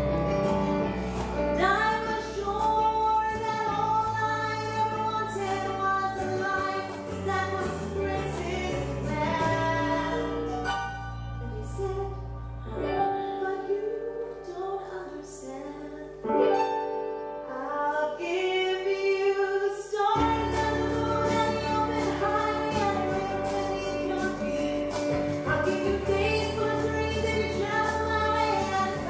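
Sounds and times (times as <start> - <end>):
instrumental accompaniment: 0.0 - 14.8, 20.2 - 29.0
woman singing: 1.3 - 16.7, 17.4 - 29.0.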